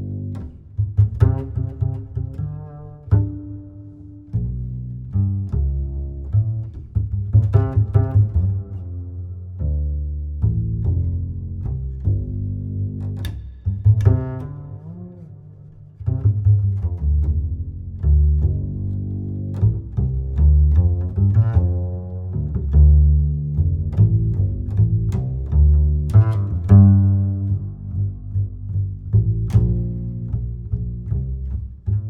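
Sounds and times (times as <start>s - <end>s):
low string notes: 0.0s - 32.0s
plucked bass line: 0.0s - 32.0s.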